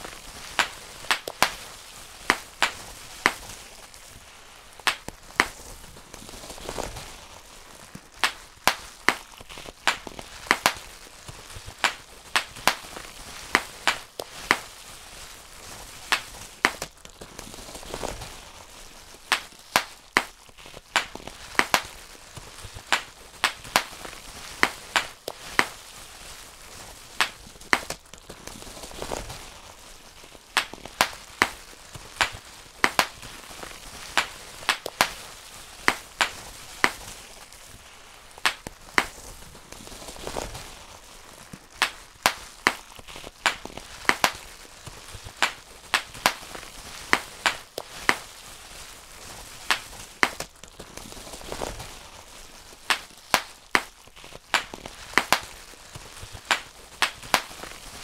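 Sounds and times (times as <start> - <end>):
bubble wrap popping: 0.0 - 58.0
plastic sheet crinkling: 0.0 - 58.0.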